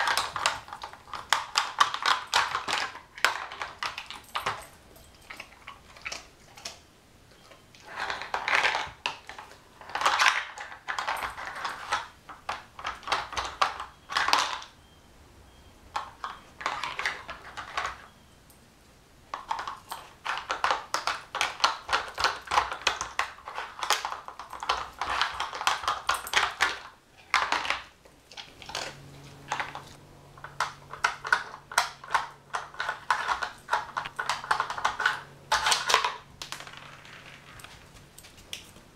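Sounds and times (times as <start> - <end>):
plastic puzzle toy clattering: 0.0 - 6.2, 7.8 - 14.7, 16.0 - 18.0, 19.3 - 37.8.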